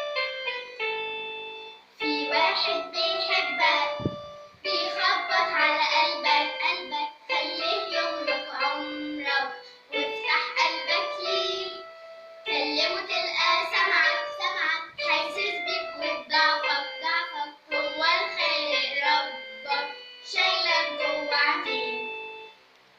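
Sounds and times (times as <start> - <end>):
instrumental accompaniment: 0.0 - 22.9
girl singing: 2.0 - 22.5.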